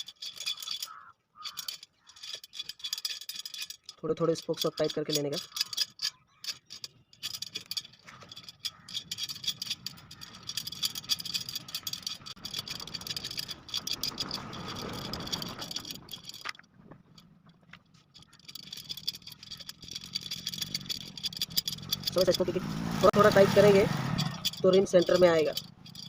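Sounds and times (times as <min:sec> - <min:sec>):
spoke wrench clicks and rattles: 0:00.0 - 0:16.6, 0:17.2 - 0:26.0.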